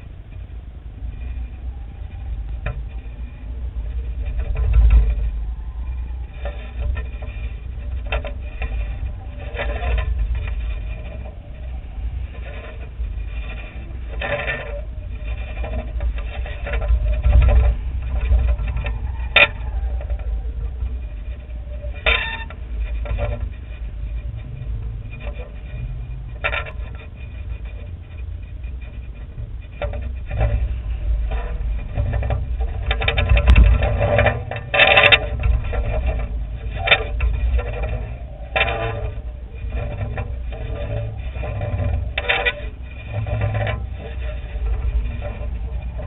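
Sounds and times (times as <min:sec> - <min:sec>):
sharp clicks and rattles: 0:00.0 - 0:46.0
wind rumbling on microphone: 0:00.0 - 0:46.0.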